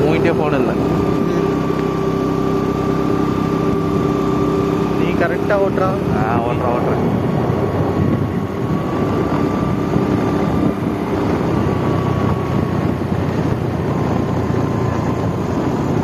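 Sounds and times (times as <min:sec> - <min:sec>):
vehicle engine and road noise: 0:00.0 - 0:16.0
wind rumbling on microphone: 0:00.0 - 0:16.0.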